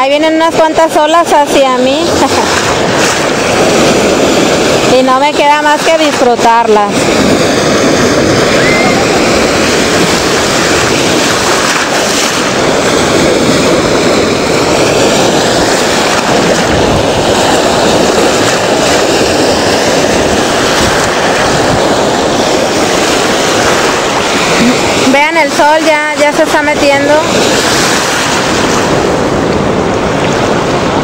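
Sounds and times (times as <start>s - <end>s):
ocean surf breaking: 0.0s - 31.0s
wind noise on microphone: 0.0s - 31.0s.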